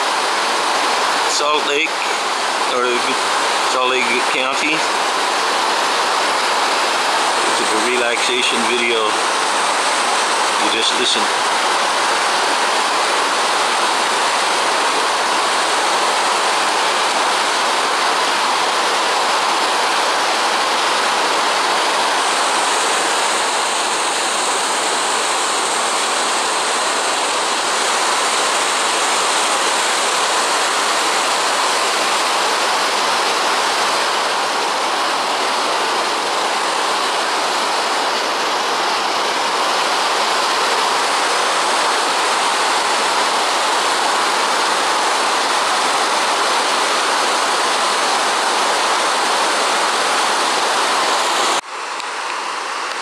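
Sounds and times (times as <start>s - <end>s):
creek water rushing: 0.0s - 53.0s.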